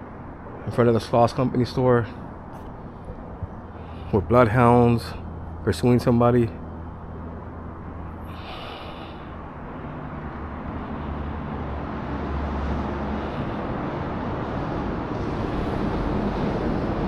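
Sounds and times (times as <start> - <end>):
low outdoor rumble and hiss: 0.0 - 17.0.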